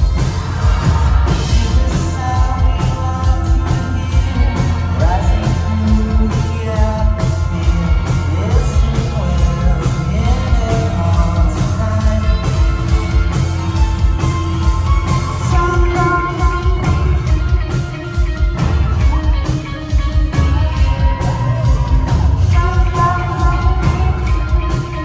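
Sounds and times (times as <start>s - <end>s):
person singing: 0.0s - 13.4s, 15.0s - 25.0s
bass guitar: 0.0s - 25.0s
drums with steady beat: 0.0s - 25.0s
electric guitars: 0.0s - 25.0s.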